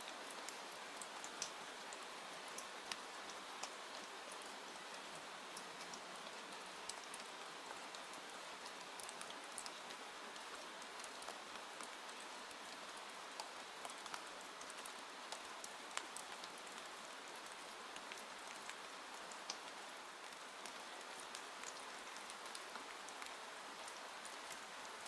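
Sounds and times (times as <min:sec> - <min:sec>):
rain on a window: 0:00.0 - 0:25.0.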